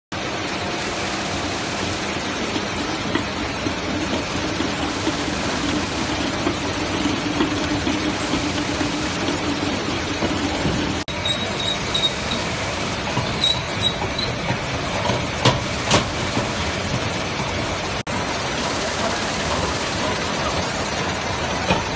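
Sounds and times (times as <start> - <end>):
bottling machine humming: 0.1 - 21.9.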